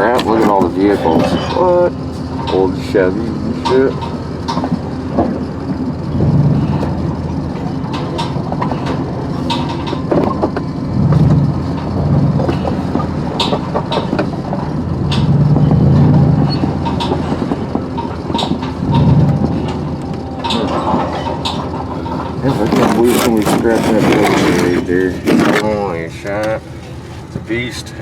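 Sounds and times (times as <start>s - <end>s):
sharp metallic clanks: 0.0s - 25.6s
vehicle engine running: 0.0s - 28.0s.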